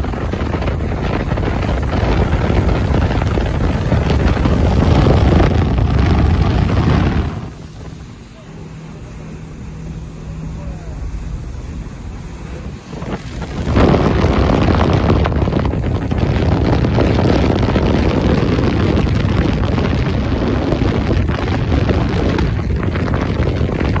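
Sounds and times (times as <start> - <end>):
boat engine drone: 0.0 - 24.0
boat wake rushing: 0.0 - 24.0
wind buffeting microphone: 0.0 - 24.0.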